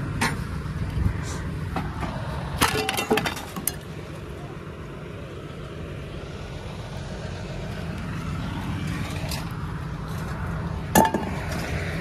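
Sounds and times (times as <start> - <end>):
vehicle engine idling: 0.0 - 2.7, 3.4 - 12.0.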